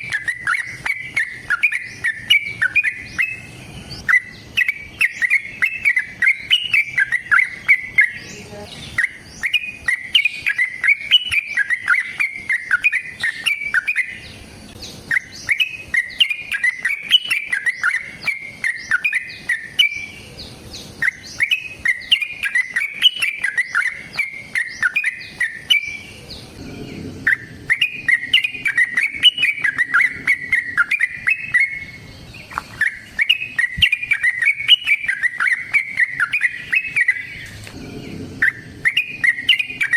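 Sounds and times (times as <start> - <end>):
bird singing rapid chattering notes: 0.0 - 39.9.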